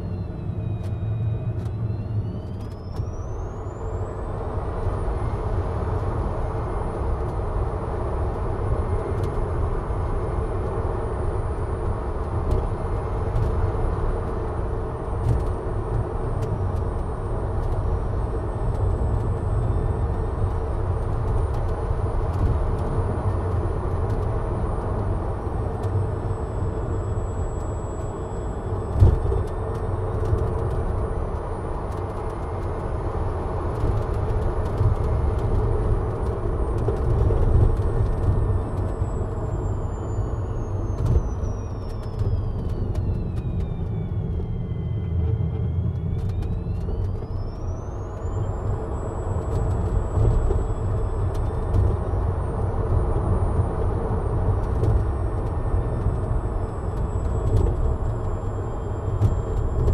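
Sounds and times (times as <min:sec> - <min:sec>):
tyres rumbling on road: 0:00.0 - 0:59.9.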